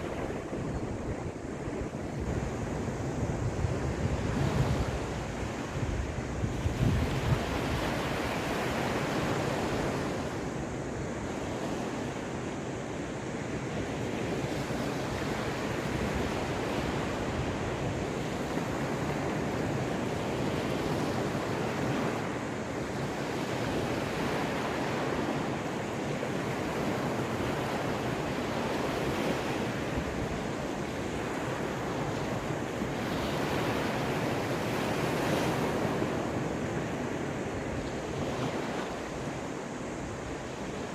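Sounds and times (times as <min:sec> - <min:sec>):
waves breaking on shore: 0:00.0 - 0:40.9
wind buffeting microphone: 0:00.0 - 0:40.9.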